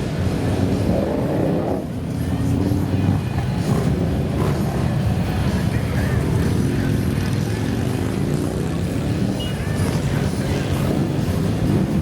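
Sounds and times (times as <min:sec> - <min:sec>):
many motorcycle engines revving: 0:00.0 - 0:12.0.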